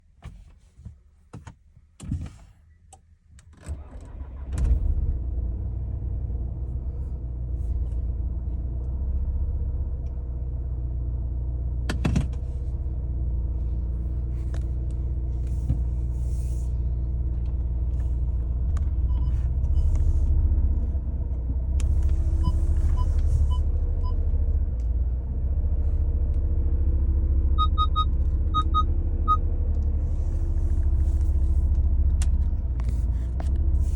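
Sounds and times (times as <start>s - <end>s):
car engine starting and idling: 3.6s - 33.9s.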